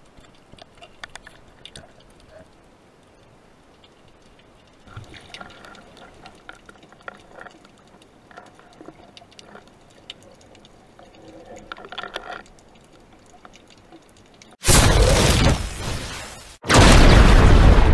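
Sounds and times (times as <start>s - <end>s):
small scattered clicks: 0.0s - 14.6s.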